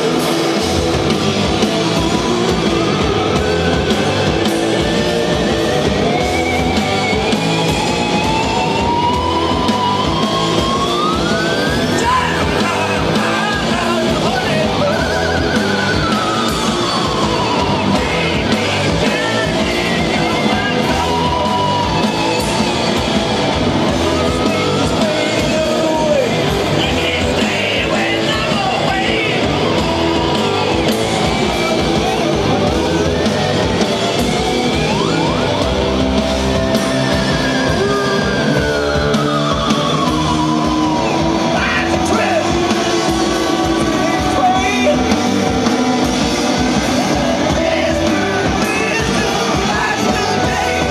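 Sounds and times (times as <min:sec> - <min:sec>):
loud live rock band: 0:00.0 - 0:50.9
sliding high guitar notes: 0:00.0 - 0:50.9.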